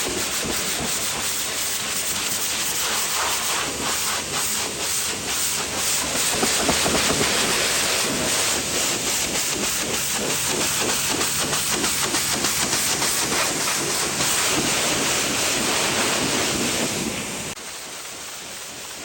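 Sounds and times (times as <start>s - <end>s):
pressure washer spray hissing: 0.0s - 19.0s.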